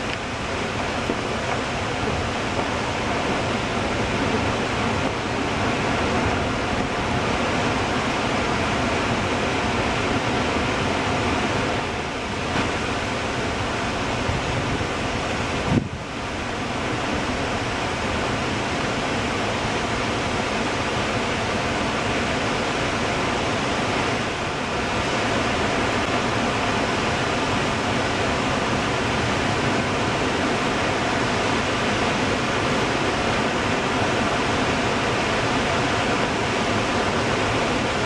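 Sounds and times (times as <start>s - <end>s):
water rushing down spillway: 0.0s - 38.0s.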